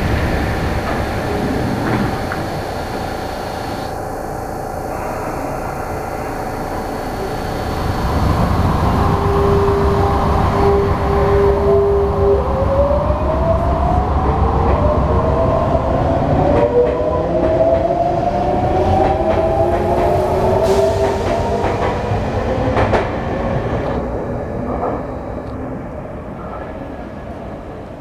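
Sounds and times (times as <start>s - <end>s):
electric train motors whining: 0.0s - 25.6s.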